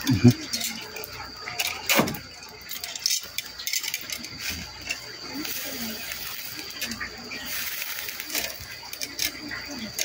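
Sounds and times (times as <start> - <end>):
metal tongs scraping grill mesh: 0.4 - 10.0.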